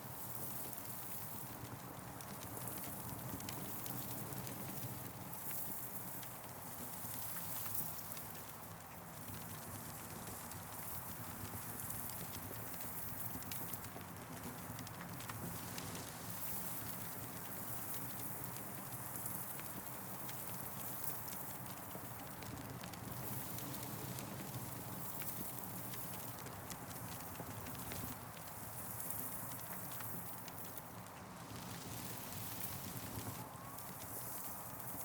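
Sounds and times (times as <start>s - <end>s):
campfire crackling and popping: 0.6s - 35.0s.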